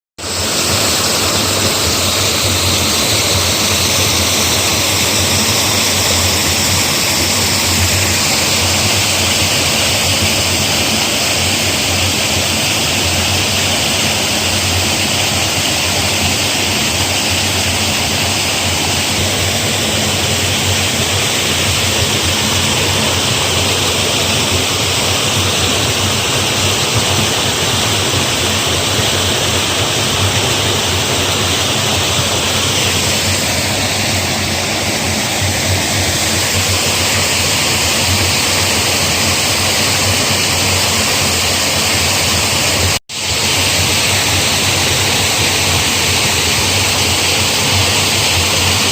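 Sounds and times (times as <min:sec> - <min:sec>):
rushing water: 0:00.2 - 0:48.9.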